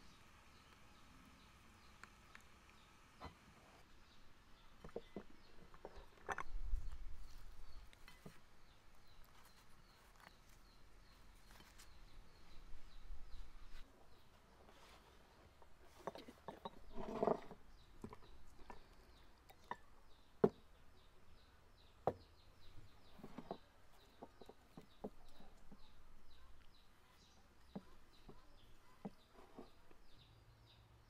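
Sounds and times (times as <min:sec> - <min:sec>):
small songbird chirping: 0:00.0 - 0:31.0.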